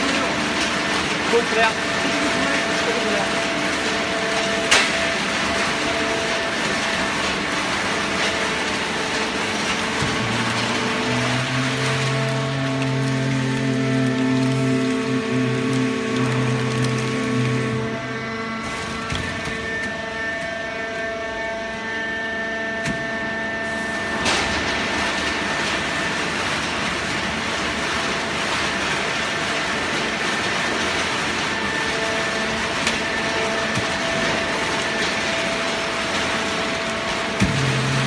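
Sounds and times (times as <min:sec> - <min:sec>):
baler machine hum with whining: 0:00.0 - 0:38.0.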